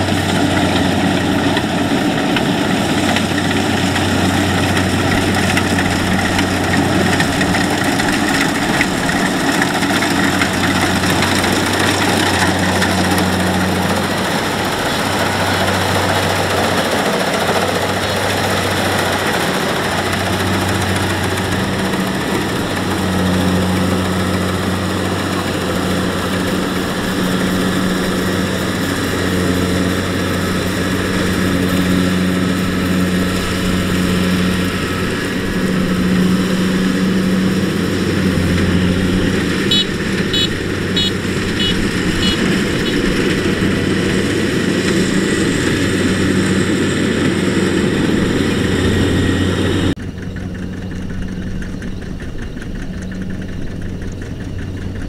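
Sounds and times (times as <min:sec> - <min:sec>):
combine harvester diesel drone: 0:00.0 - 0:55.0.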